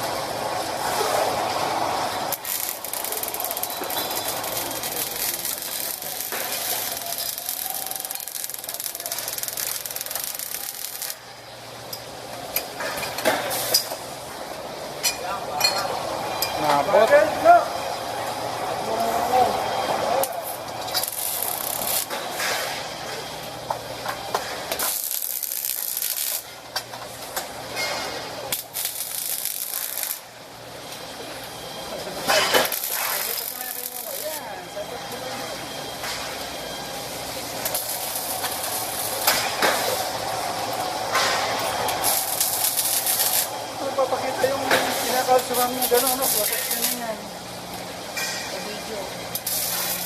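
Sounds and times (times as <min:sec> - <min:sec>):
welding arc crackling: 0:00.0 - 0:15.0, 0:16.1 - 0:50.0.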